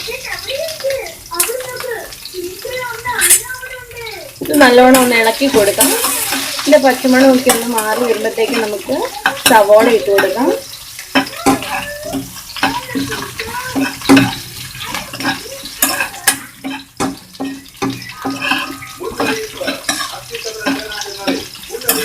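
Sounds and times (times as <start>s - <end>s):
ginger and garlic sizzling in oil: 0.0s - 22.0s
spatula scraping pan: 2.6s - 3.7s, 4.4s - 22.0s.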